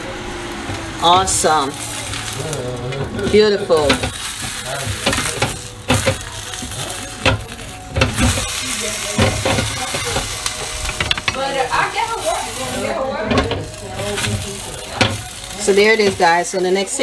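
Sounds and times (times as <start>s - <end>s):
fish sizzling in grill pan: 0.0s - 17.0s
wooden spatulas scraping pan: 1.0s - 17.0s.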